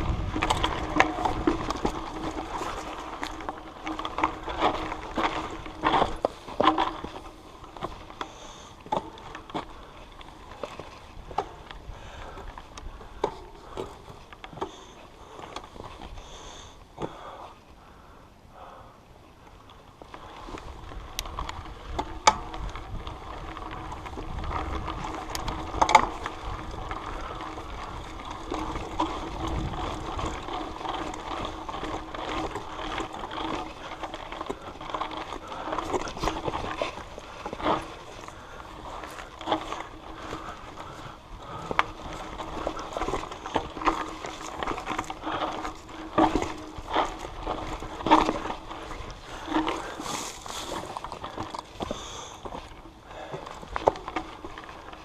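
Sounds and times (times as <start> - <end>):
bike knocking and rattling: 0.0 - 55.0
bike tyres rolling on dirt: 0.0 - 55.0.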